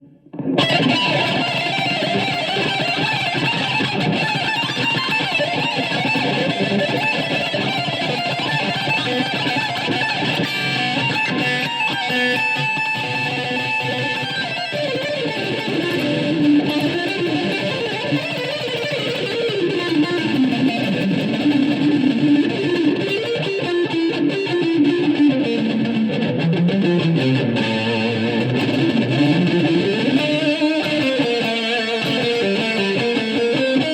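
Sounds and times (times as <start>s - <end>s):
distorted electric guitar runs: 0.3s - 33.9s.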